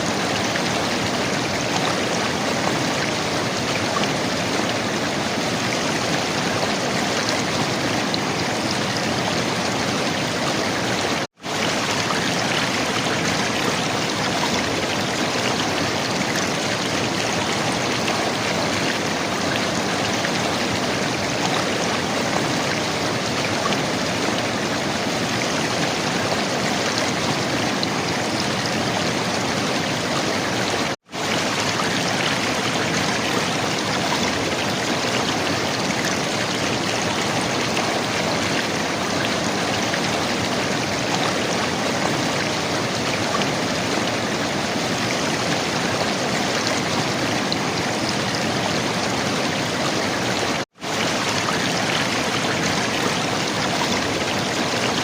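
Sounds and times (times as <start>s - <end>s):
river water flowing and gurgling: 0.0s - 55.0s.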